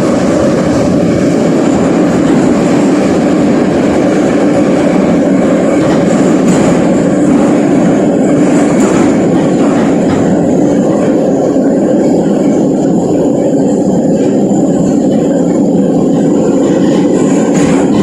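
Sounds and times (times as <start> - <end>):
train rumbling through tunnel: 0.0 - 18.0.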